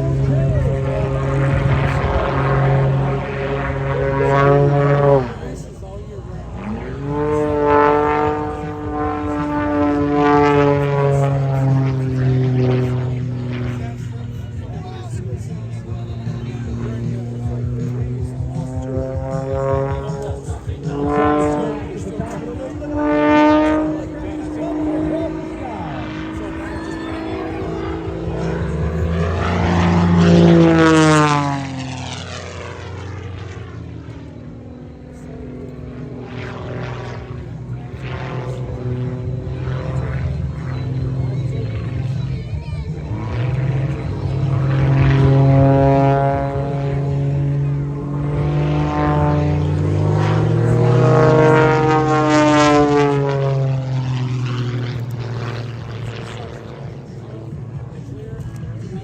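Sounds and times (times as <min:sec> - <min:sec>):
propeller plane passing: 0:00.0 - 0:59.0.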